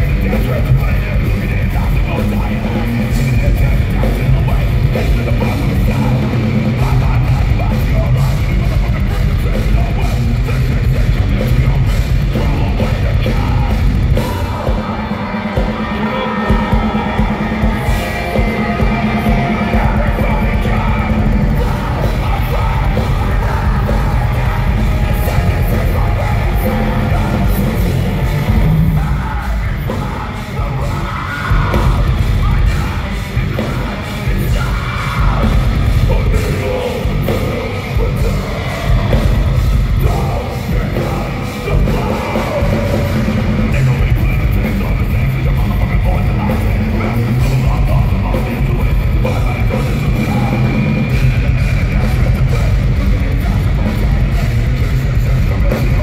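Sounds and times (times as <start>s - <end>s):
heavy metal band playing: 0.0s - 56.0s
singer shouting vocals: 0.0s - 56.0s.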